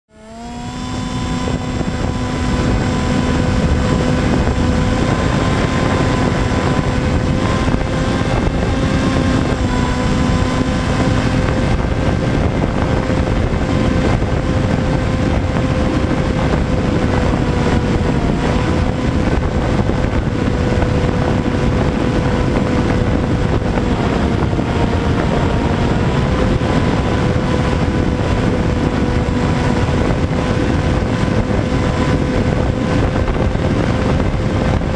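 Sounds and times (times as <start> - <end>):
model plane motor and propeller: 0.1 - 34.9
wind rush: 0.1 - 34.9.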